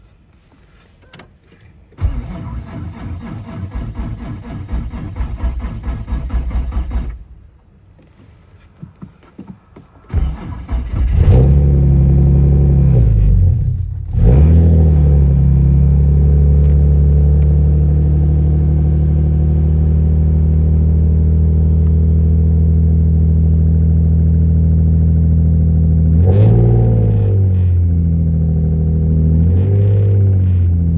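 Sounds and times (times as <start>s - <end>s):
car engine starting: 1.9s - 8.4s, 10.0s - 30.9s.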